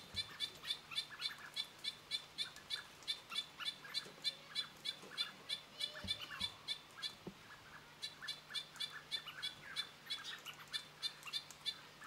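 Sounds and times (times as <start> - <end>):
bird calling high chips: 0.0 - 11.9.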